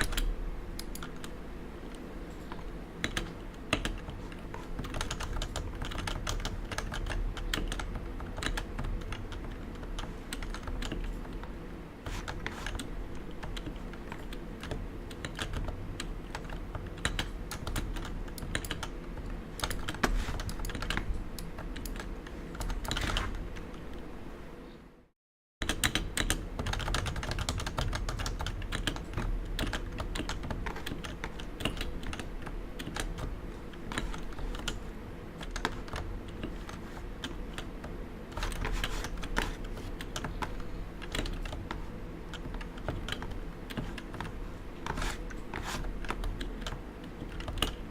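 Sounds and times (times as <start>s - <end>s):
fast keyboard typing: 0.0s - 1.4s, 2.4s - 23.7s, 25.6s - 47.9s.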